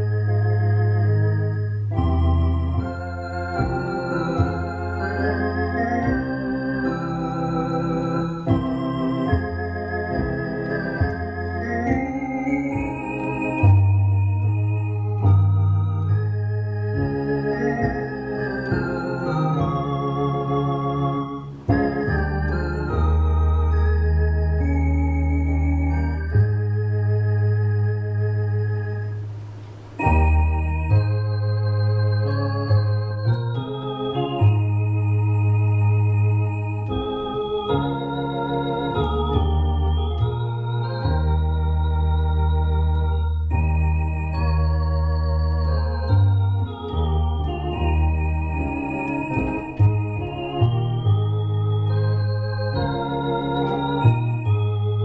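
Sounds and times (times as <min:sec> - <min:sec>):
electronic organ playing a hymn: 0:00.0 - 0:55.0.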